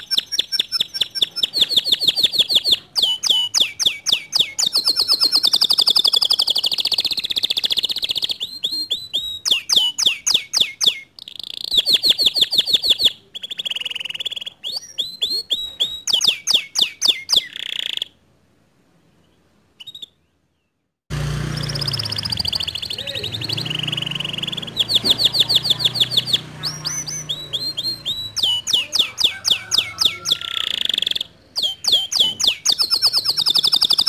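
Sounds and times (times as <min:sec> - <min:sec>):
canary singing trills: 0:00.0 - 0:18.2, 0:19.2 - 0:20.7, 0:21.4 - 0:34.0.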